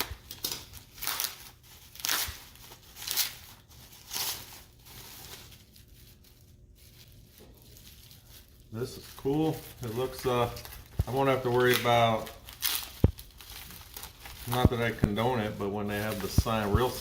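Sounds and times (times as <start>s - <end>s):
packing material crinkling and tearing: 0.0s - 17.0s.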